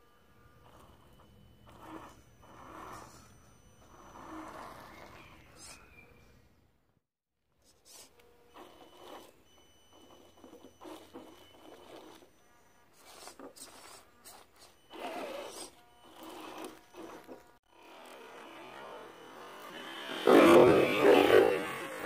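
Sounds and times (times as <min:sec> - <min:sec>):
toy car motor whining: 0:00.0 - 0:06.2, 0:07.7 - 0:22.0.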